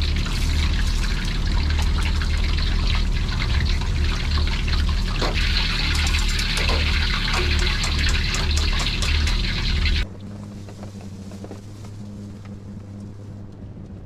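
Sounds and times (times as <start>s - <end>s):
hissing and crackling: 0.0s - 14.0s
pulsing machine rumble: 0.0s - 14.0s.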